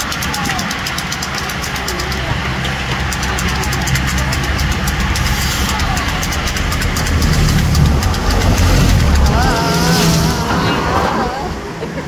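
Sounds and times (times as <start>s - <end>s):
bicycles whirring and clicking: 0.0s - 12.0s
low engine rumble: 0.0s - 12.0s.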